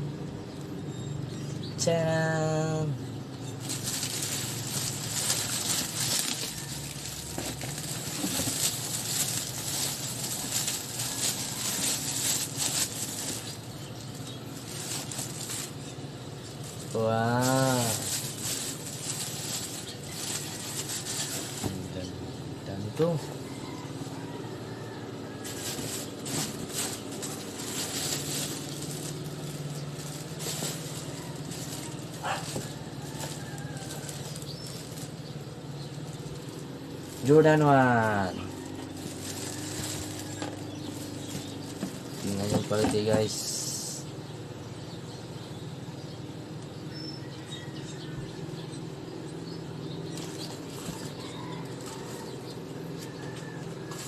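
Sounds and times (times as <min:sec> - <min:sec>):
packaging rustling and crinkling: 0:03.4 - 0:22.0, 0:22.9 - 0:43.8, 0:50.1 - 0:54.0.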